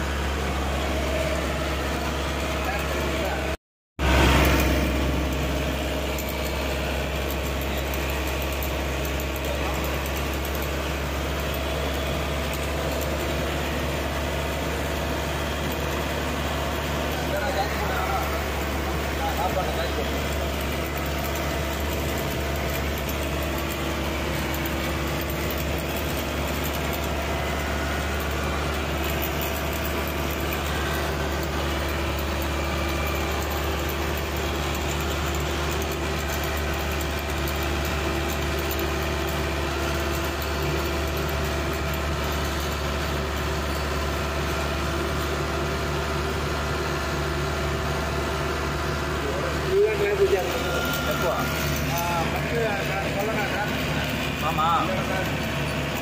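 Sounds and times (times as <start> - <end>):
bus engine running: 0.0 - 56.0
road noise: 0.0 - 56.0.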